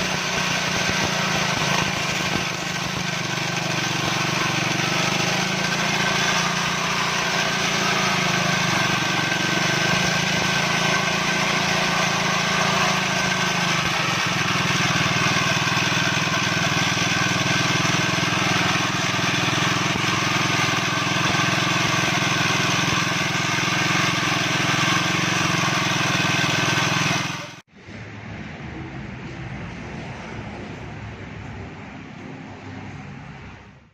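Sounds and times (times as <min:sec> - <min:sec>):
lawn mower engine running: 0:00.0 - 0:27.7.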